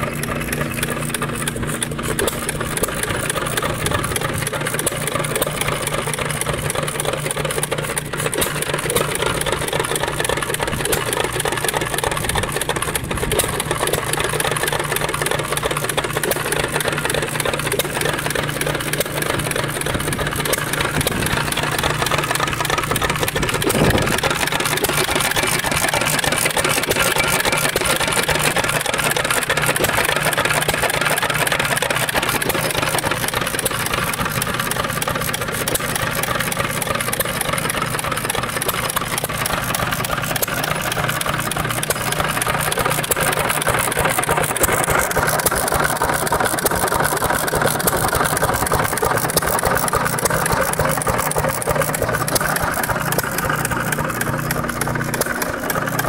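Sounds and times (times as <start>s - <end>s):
single-cylinder gas engine running: 0.0s - 56.0s.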